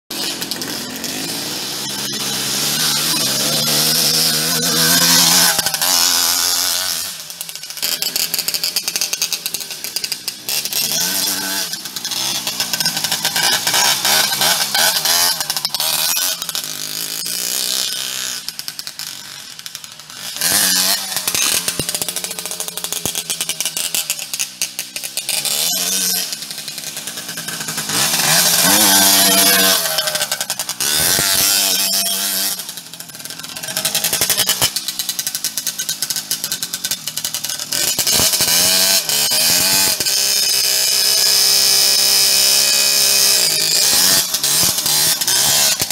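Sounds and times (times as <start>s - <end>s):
two-stroke moped engine revving: 0.1s - 45.9s.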